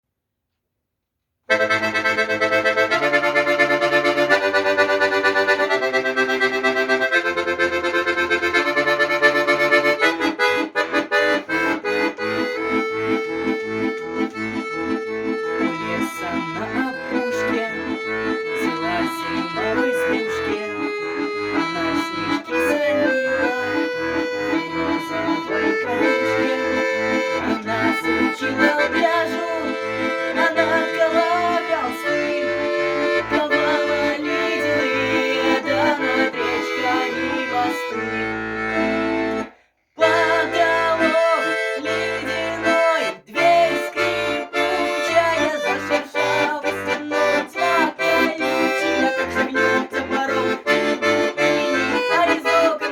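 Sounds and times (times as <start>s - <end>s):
accordion melody: 1.5s - 52.9s.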